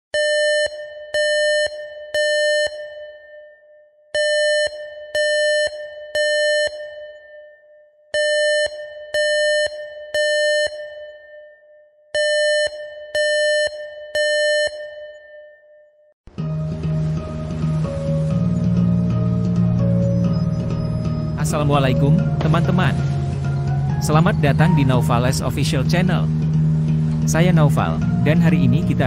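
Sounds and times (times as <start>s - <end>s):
electronic alarm beeps with echo: 0.2s - 15.9s, 18.6s - 26.4s.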